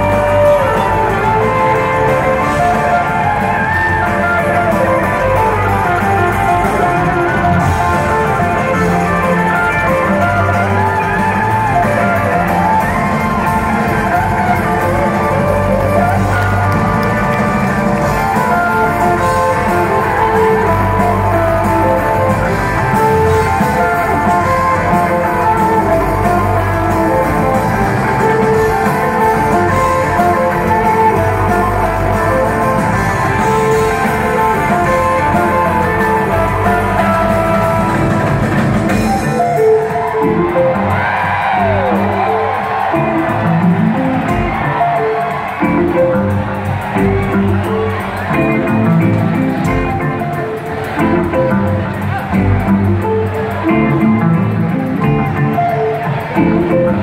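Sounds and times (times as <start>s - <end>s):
electric guitars: 0.0s - 57.0s
live rock band playing: 0.0s - 57.0s.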